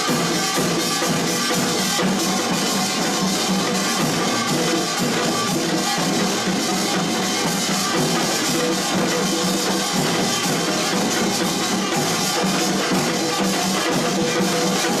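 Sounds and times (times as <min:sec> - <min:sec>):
drums and gongs playing: 0:00.0 - 0:15.0.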